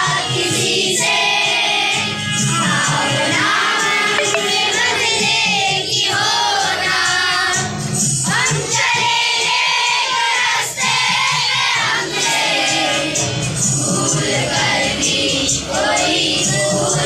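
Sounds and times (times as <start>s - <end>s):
boys singing together: 0.0s - 7.7s, 8.3s - 17.0s.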